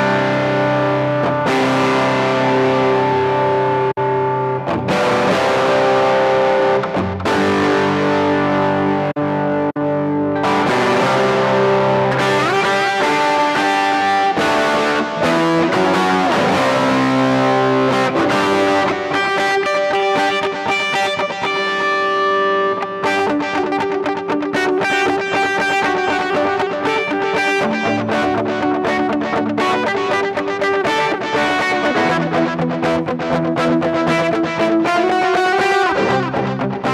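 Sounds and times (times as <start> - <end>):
distorted electric guitar melody: 0.0 - 36.9.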